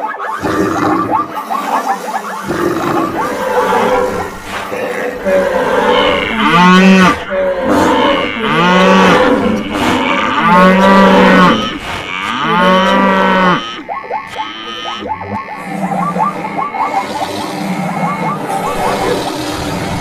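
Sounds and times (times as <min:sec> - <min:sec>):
other animal calls: 0:00.0 - 0:20.0
cattle mooing: 0:02.4 - 0:20.0.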